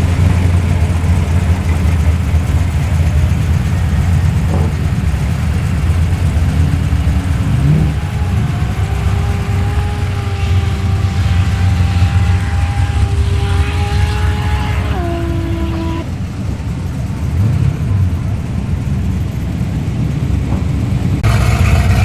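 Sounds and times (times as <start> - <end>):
higher droning tone: 0.0 - 20.2
low engine rumble: 0.0 - 22.0.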